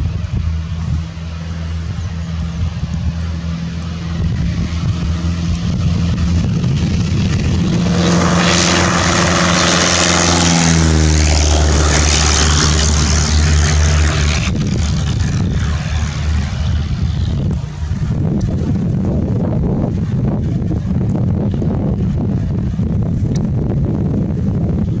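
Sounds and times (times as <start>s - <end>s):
propeller plane engine at high power: 0.0s - 25.0s
rush of air and wind noise: 0.0s - 25.0s.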